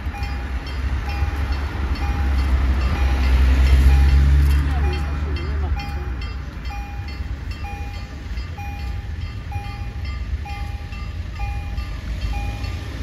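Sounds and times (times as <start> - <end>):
level crossing warning beeps: 0.0 - 13.0.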